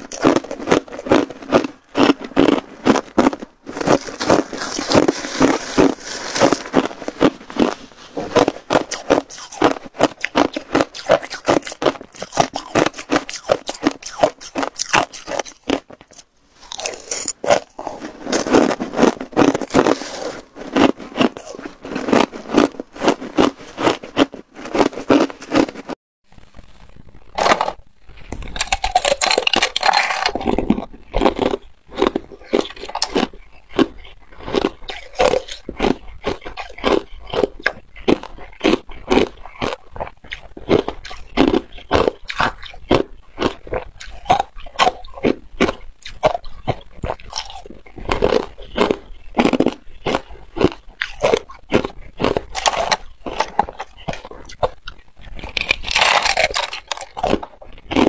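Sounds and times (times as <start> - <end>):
crunching ice chunks: 0.0 - 26.0, 28.5 - 54.8, 55.4 - 58.0.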